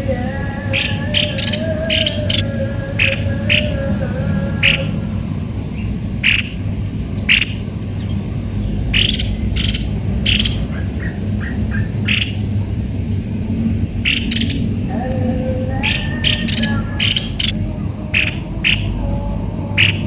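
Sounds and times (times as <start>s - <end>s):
steady low hum: 0.0s - 20.0s
birds squawking harshly: 0.4s - 19.0s.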